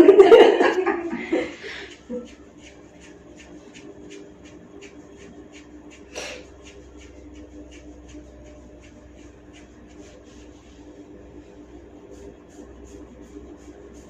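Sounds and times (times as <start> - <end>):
hands rubbing skin: 0.0 - 14.0.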